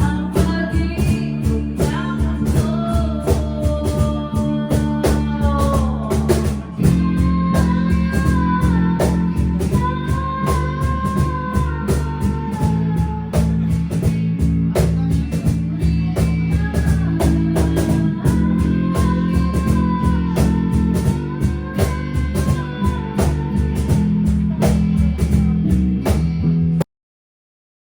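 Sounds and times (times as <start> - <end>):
rock band playing: 0.0 - 26.8.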